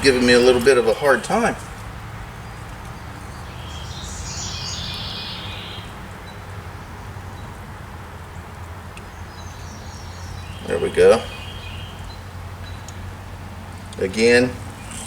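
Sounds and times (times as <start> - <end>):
bird singing: 0.0 - 15.0
low background noise: 0.0 - 15.0.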